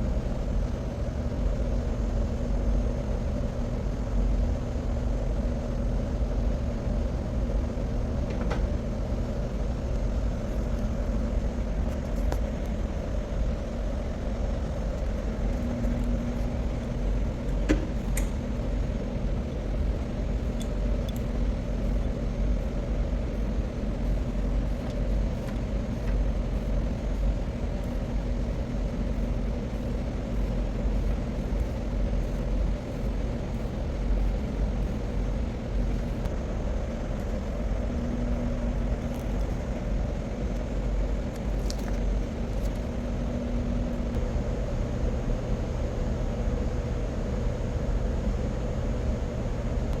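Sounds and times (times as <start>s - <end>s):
heavy machinery rumble and hum: 0.0s - 50.0s.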